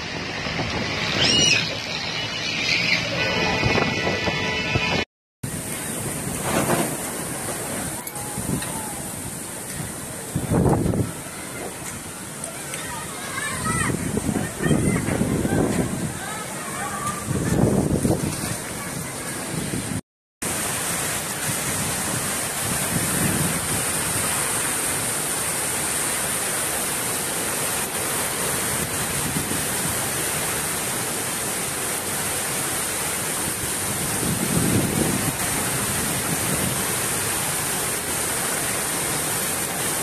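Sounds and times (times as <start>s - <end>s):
heavy rain falling: 5.4s - 40.0s.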